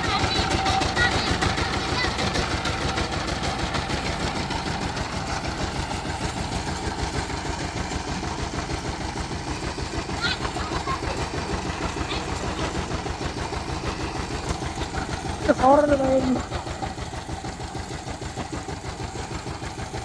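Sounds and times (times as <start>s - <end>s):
diesel engine knocking: 0.0s - 20.0s.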